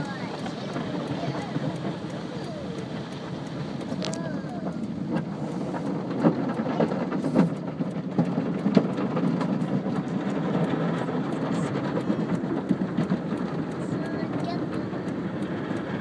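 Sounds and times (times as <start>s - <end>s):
car wash rumble: 0.0s - 16.0s.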